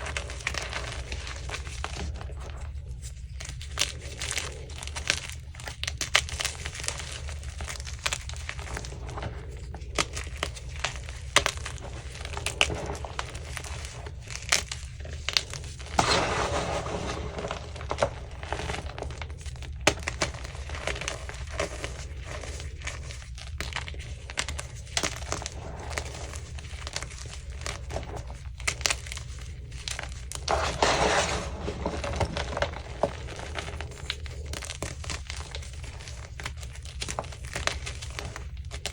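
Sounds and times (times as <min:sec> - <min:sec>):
chalk being crushed: 0:00.0 - 0:38.9.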